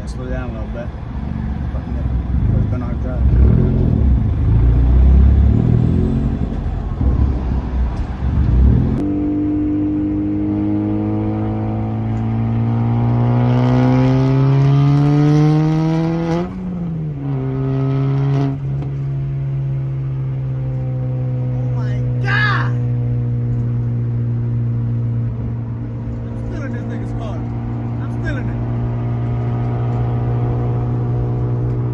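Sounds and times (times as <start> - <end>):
car engine accelerating: 0.7 - 31.9.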